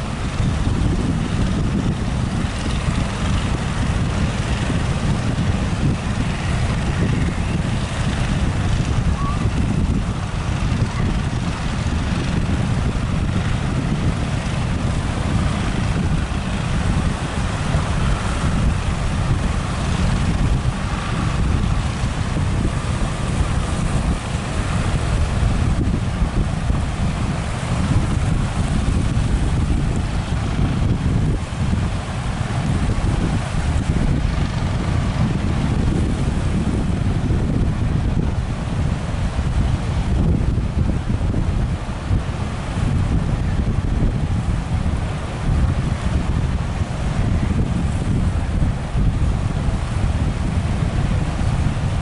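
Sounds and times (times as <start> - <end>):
breaking surf: 0.0 - 52.0
wind buffeting microphone: 0.0 - 52.0.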